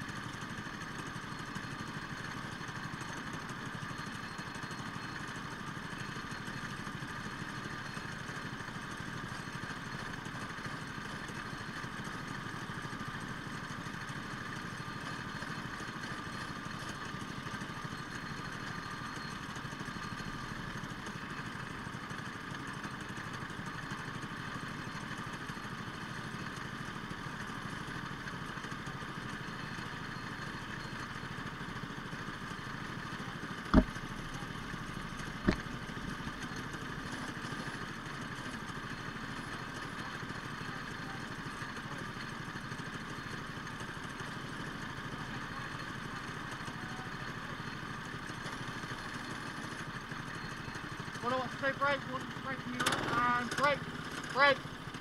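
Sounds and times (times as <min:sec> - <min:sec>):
go-kart engine idling: 0:00.0 - 0:55.0.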